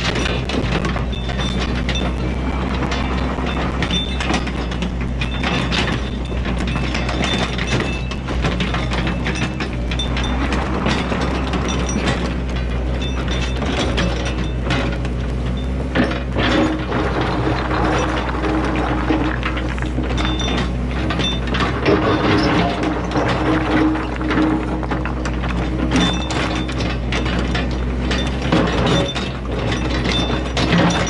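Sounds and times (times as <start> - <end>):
diesel engine running: 0.0 - 31.0
rocks knocking and scraping: 0.0 - 31.0.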